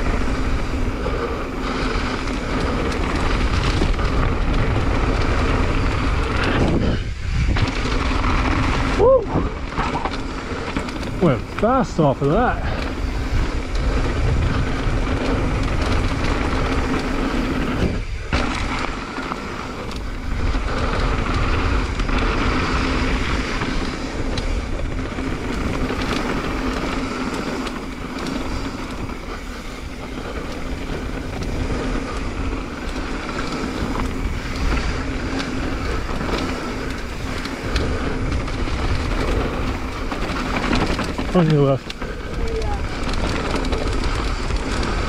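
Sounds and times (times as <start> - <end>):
bike tyres rolling over dirt: 0.0 - 45.0
wind rushing over microphone: 0.0 - 45.0.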